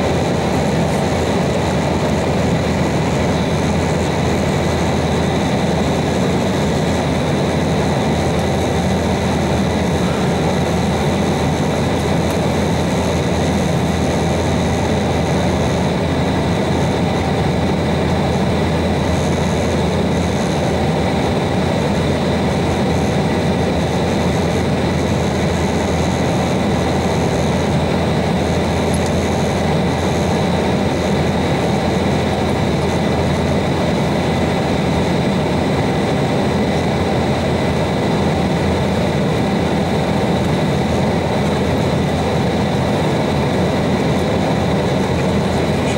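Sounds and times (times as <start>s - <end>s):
jet engines humming: 0.0s - 45.9s.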